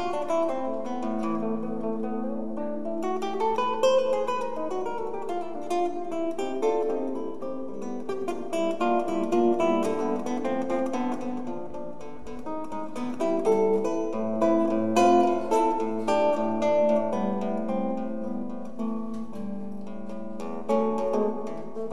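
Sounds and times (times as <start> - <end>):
acoustic guitar picking: 0.0 - 21.9.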